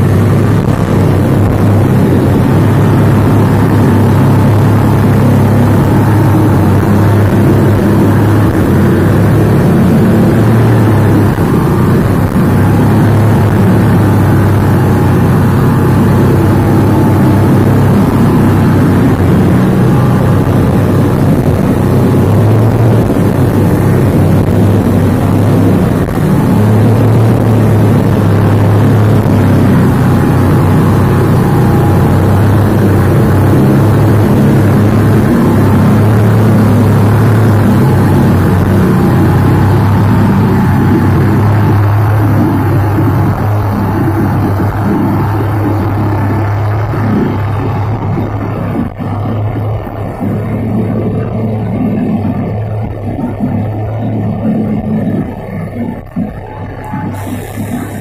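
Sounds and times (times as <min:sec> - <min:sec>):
boat wake rushing: 0:00.0 - 0:58.0
outboard motor droning: 0:00.0 - 0:58.0.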